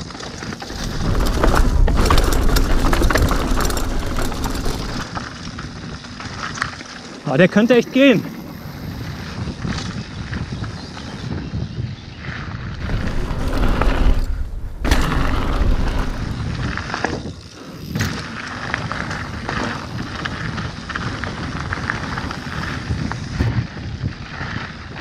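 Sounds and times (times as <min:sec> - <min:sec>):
wind buffeting microphone: 0:00.0 - 0:06.8, 0:08.2 - 0:25.0
bike clicking and rattling: 0:00.0 - 0:11.3, 0:12.2 - 0:25.0
tyres on gravel trail: 0:00.0 - 0:25.0.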